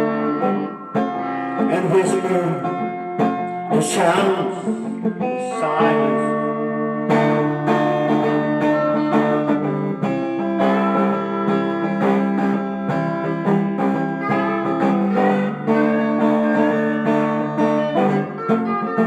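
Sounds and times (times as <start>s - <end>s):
plucked and strummed guitar: 0.0s - 19.0s.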